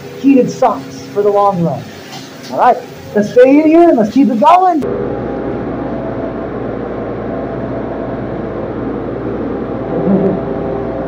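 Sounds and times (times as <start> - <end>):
fan noise: 0.0 - 11.0
refrigeration unit humming: 0.0 - 11.0.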